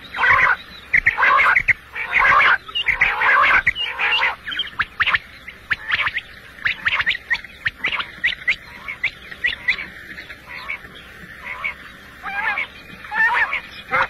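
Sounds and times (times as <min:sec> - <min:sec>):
quail calling: 0:00.0 - 0:14.0.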